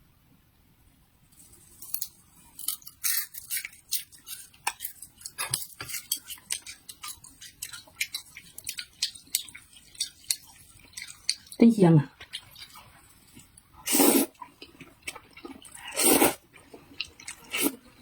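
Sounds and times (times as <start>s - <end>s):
crunchy chewing of insects: 1.6s - 18.0s.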